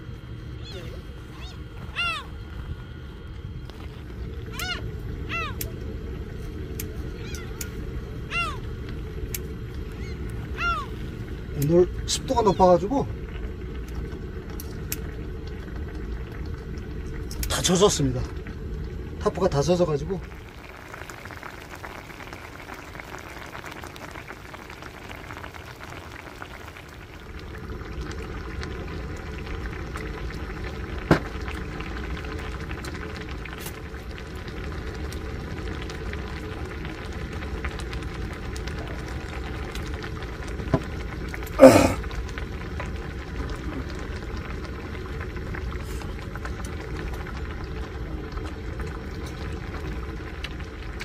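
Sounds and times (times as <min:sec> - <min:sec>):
sauce bubbling in a pan: 0:00.0 - 0:51.0.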